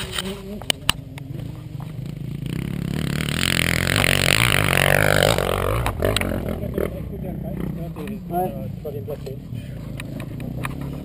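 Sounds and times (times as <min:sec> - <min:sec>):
motocross engine revving: 0:00.0 - 0:11.0.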